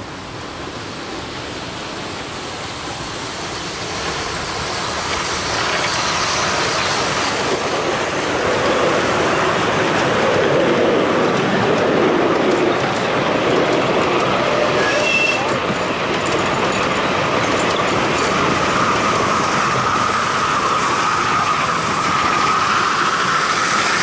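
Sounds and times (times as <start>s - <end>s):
miniature steam train passing: 0.0s - 24.0s
wheels running on rails: 4.1s - 24.0s.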